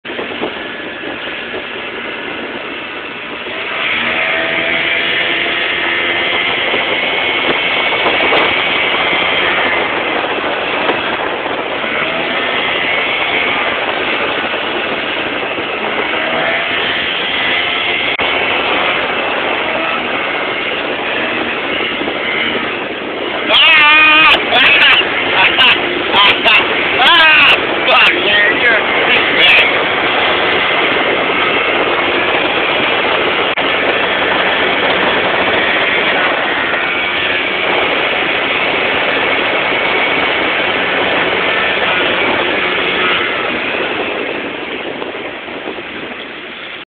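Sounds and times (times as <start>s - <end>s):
boat motor running: 0.0s - 46.8s.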